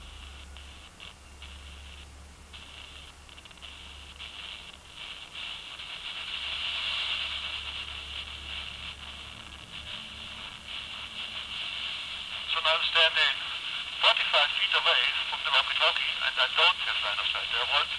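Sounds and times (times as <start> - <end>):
walkie-talkie static hiss: 0.0 - 17.9.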